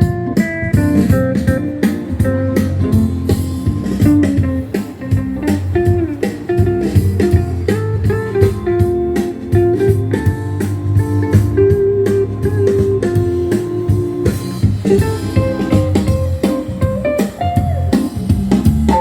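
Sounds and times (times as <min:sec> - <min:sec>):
plucked guitar melody: 0:00.0 - 0:19.0
steady bass line: 0:00.0 - 0:19.0.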